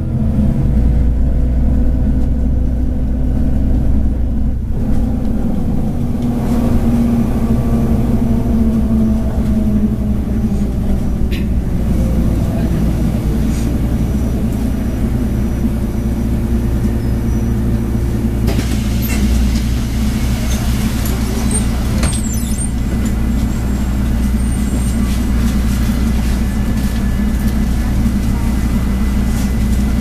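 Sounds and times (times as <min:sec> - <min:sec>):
bus engine with road noise: 0:00.0 - 0:30.0.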